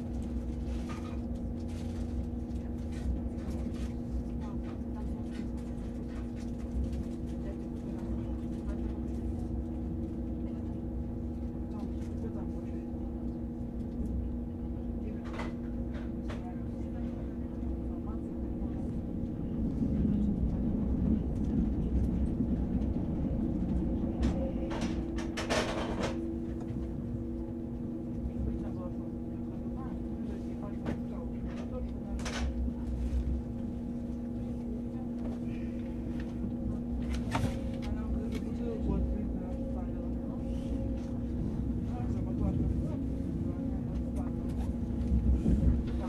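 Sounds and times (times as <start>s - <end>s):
faint passenger voices: 0.0s - 46.0s
steady hum: 0.0s - 46.0s
train low rumble: 0.0s - 46.0s.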